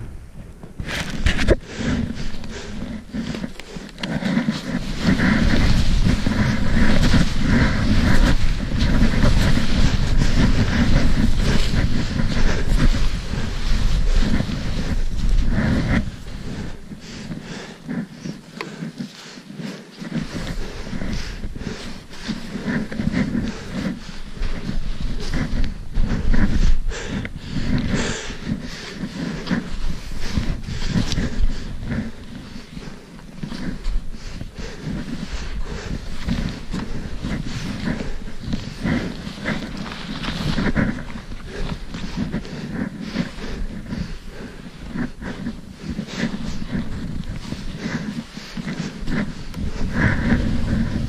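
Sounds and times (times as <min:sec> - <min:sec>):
snow scraping against clothing: 0:00.8 - 0:51.0.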